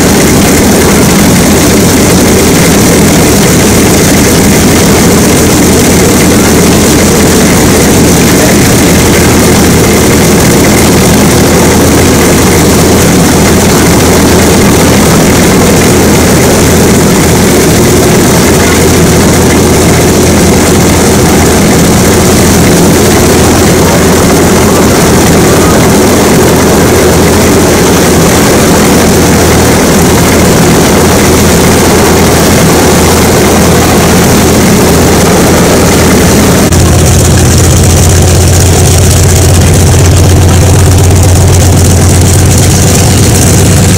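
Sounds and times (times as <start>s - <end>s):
radial aircraft engine running: 0.0s - 43.9s.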